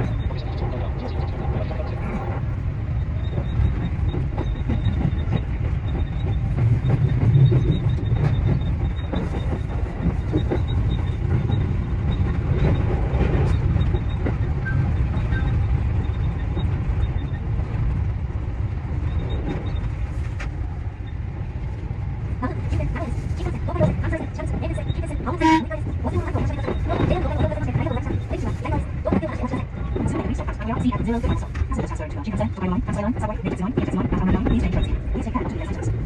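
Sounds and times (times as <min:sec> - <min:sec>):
electric train rumbling: 0:00.0 - 0:36.0.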